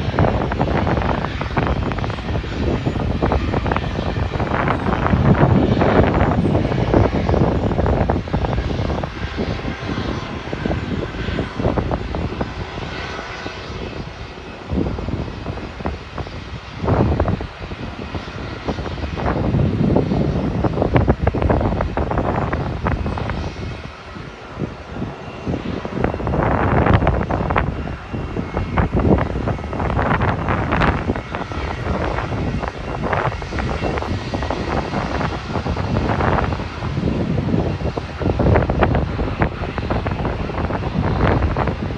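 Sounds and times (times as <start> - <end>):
airliner engines roaring: 0.0 - 41.9
wind buffeting microphone: 0.0 - 41.9.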